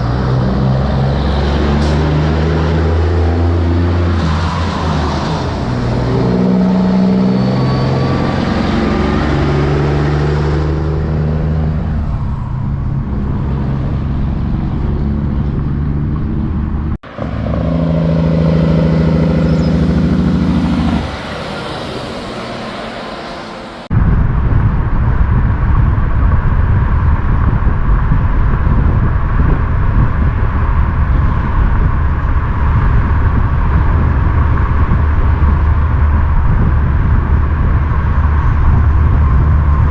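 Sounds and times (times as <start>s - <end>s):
diesel truck engine rumble: 0.0s - 39.9s.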